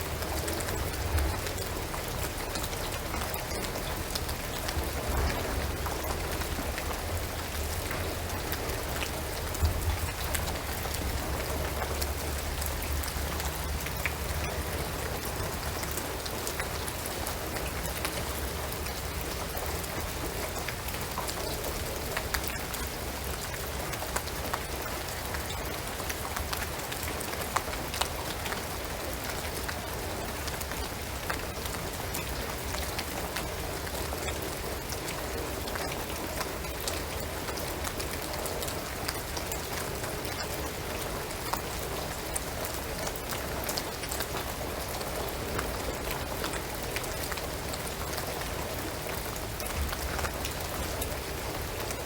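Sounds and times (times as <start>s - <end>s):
rain on a shingled roof: 0.0s - 52.0s
raindrops ticking: 0.0s - 52.0s.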